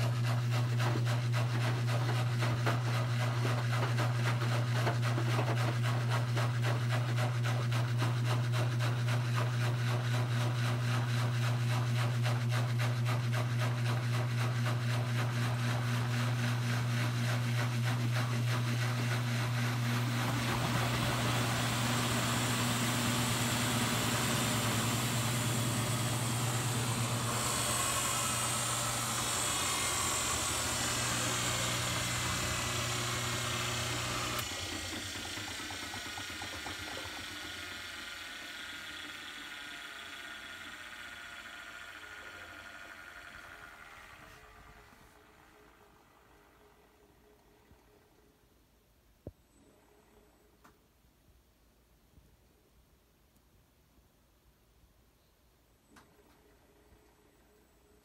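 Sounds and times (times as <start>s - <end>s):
washing machine motor hum: 0.0s - 48.0s.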